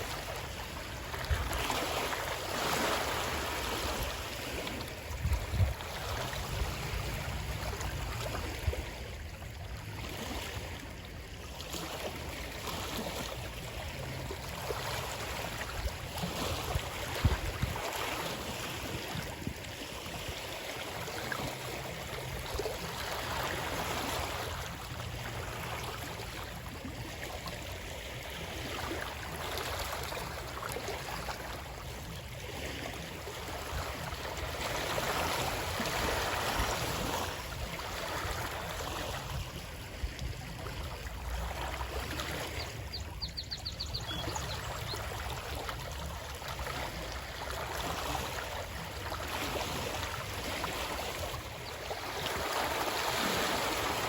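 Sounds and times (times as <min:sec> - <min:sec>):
stream water rushing and gurgling: 0:00.0 - 0:54.0.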